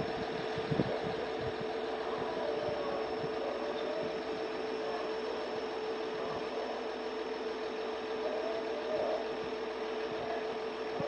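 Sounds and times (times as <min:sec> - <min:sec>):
diesel railcar engine droning: 0:00.0 - 0:11.0.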